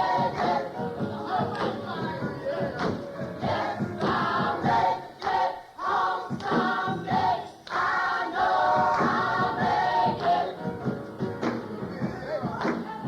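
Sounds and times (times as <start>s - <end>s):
choir singing gospel: 0.0s - 13.0s.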